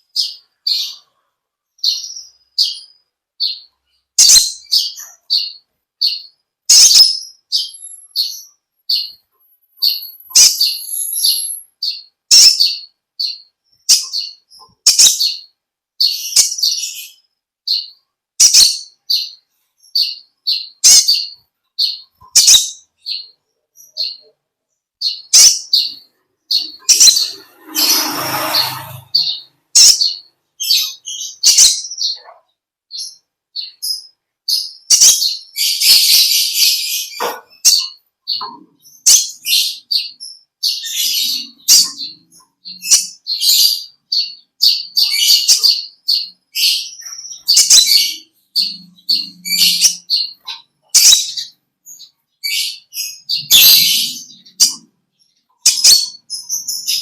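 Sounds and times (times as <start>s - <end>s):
sunbird high chirps: 0.0s - 24.4s, 25.0s - 32.3s, 32.9s - 57.0s.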